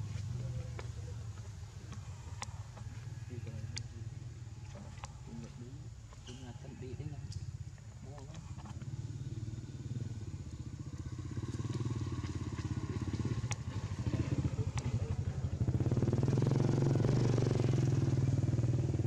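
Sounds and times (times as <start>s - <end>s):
engine running with even pulsing: 0.0s - 19.0s.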